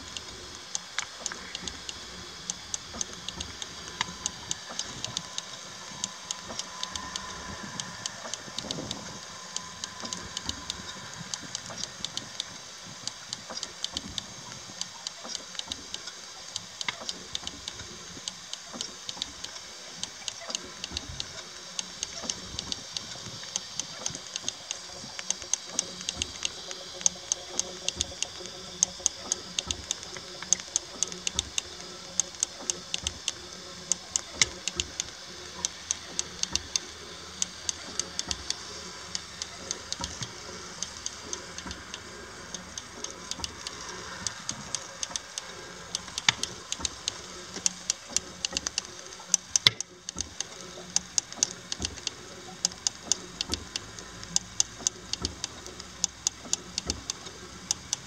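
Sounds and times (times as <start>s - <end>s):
miniature steam engine clicking: 0.0s - 58.0s
steam hiss: 0.0s - 58.0s.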